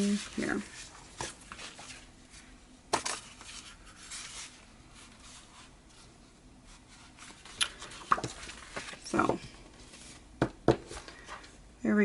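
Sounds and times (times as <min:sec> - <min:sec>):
faint paper rustling and scraping: 0:00.0 - 0:11.6.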